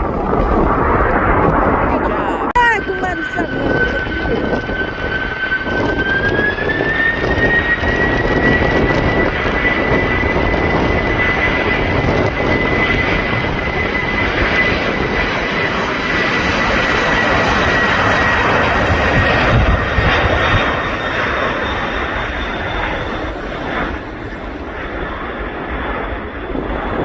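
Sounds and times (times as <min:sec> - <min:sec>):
airplane engine roar with whine: 0:00.0 - 0:27.0.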